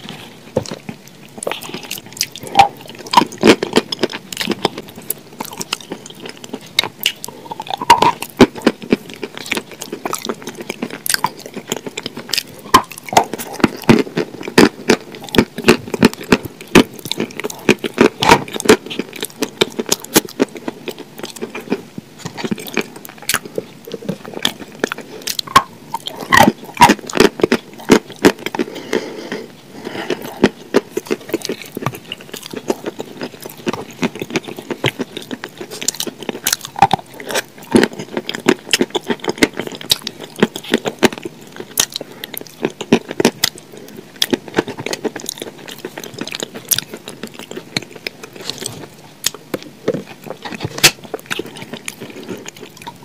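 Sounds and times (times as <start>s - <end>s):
wet chewing and lip-smacking: 0.0s - 53.0s.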